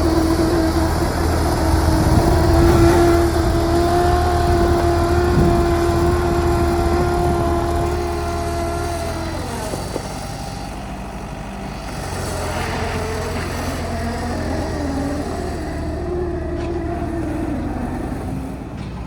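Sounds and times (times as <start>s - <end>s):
utility machine engine running: 0.0s - 19.0s.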